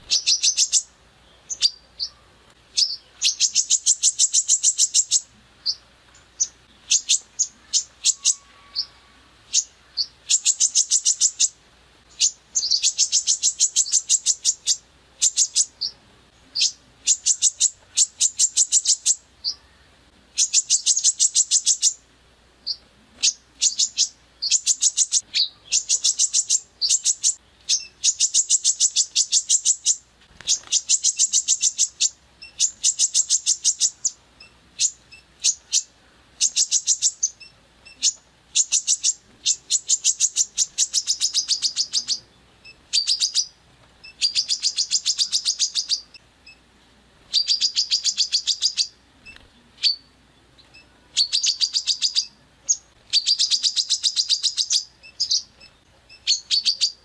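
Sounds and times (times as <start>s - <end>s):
songbird singing harsh rapid notes: 0.0s - 22.0s, 22.6s - 46.7s, 47.3s - 57.0s.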